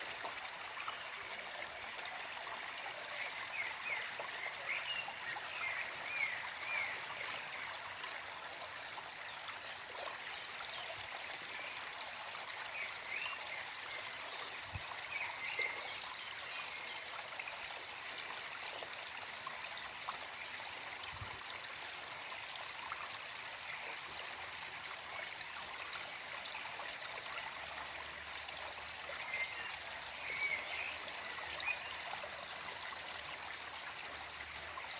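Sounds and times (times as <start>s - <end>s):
stream trickling: 0.0s - 34.9s.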